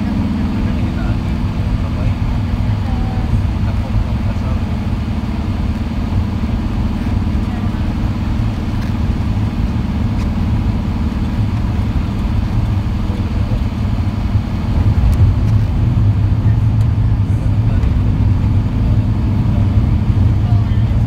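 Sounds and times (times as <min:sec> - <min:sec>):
engine drone: 0:00.0 - 0:21.0
tyre noise on road: 0:00.0 - 0:21.0.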